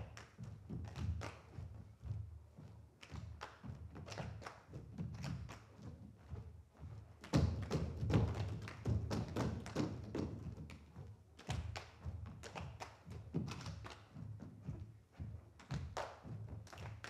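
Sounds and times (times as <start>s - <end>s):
bare feet stamping on stage floor: 0.0s - 17.0s.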